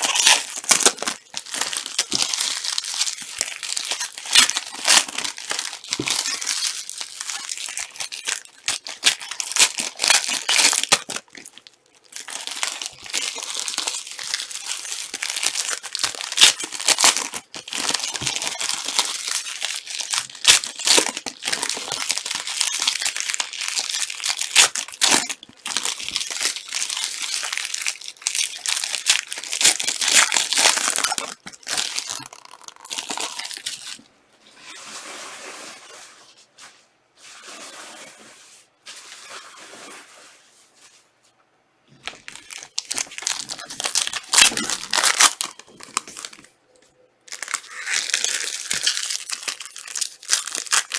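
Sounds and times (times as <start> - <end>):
card pack wrappers tearing and crinkling: 0.0 - 34.0, 42.0 - 46.5, 47.3 - 50.9.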